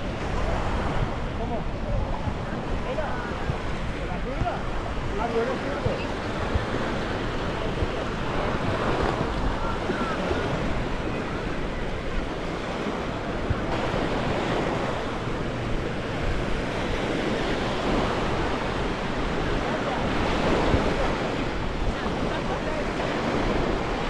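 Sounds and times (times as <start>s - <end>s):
small waves breaking on shore: 0.0s - 24.0s
wind buffeting microphone: 0.0s - 24.0s.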